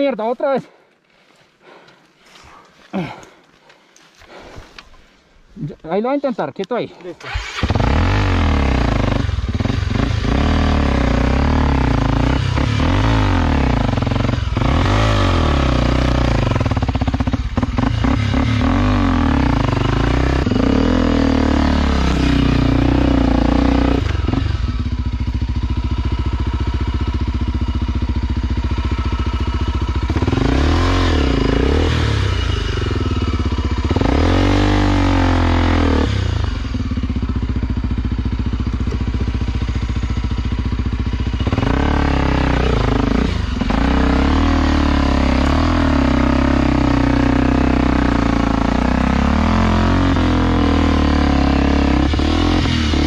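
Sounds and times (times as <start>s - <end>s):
motorcycle engine revving: 7.2s - 53.0s.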